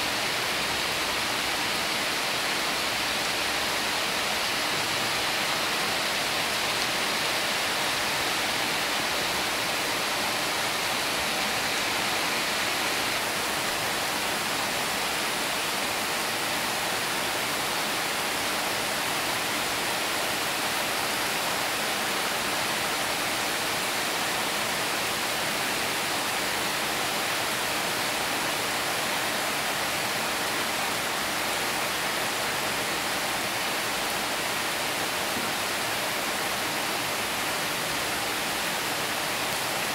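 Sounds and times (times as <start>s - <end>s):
heavy rain on tin roofs: 0.0s - 39.9s.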